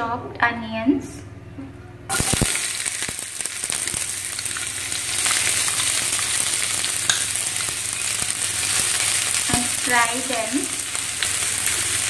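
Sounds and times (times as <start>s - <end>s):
onions sizzling in hot oil: 2.1s - 12.0s.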